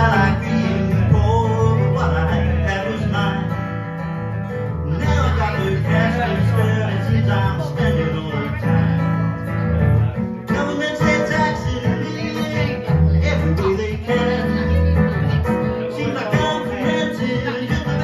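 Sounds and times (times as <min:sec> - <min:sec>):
amplified acoustic guitar: 0:00.0 - 0:18.0.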